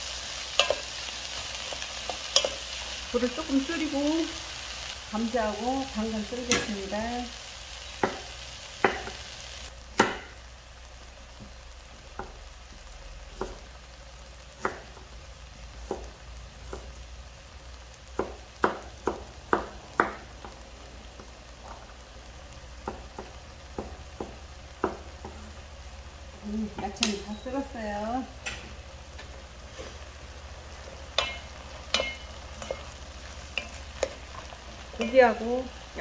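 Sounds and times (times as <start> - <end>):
food sizzling in a pot: 0.0 - 36.0.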